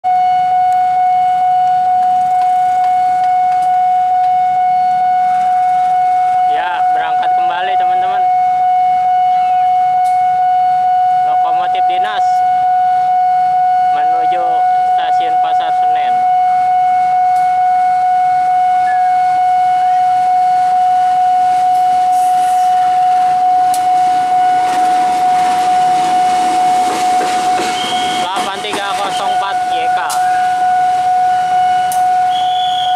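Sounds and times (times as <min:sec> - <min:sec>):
level crossing alarm tone: 0:00.0 - 0:32.9
locomotive engine and wheels: 0:00.0 - 0:32.9.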